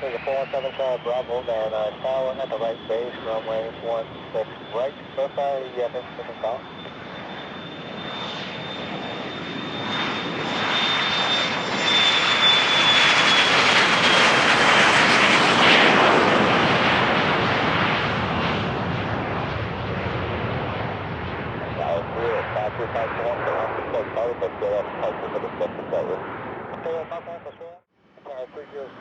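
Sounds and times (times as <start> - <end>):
high jet engine whine: 0.0 - 29.0
jet engines passing on runway: 0.0 - 29.0.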